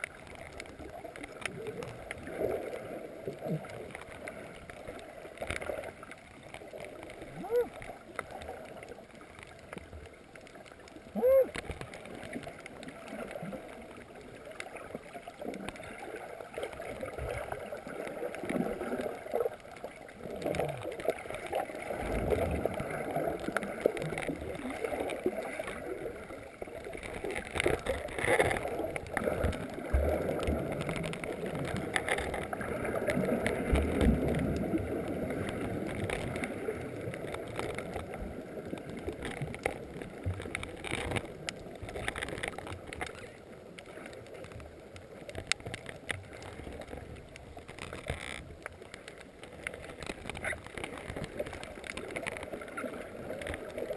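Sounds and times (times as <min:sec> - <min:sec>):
water surging and gurgling underwater: 0:00.0 - 0:53.9.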